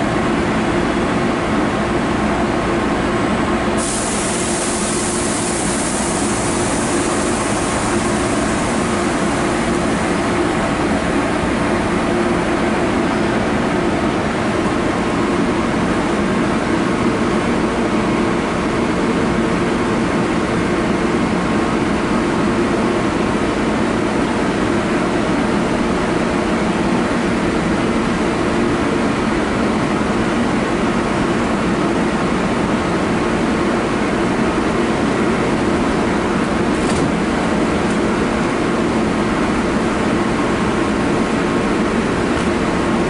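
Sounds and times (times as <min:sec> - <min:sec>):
diesel train engine droning: 0:00.0 - 0:43.0
train ventilation running: 0:00.0 - 0:43.0.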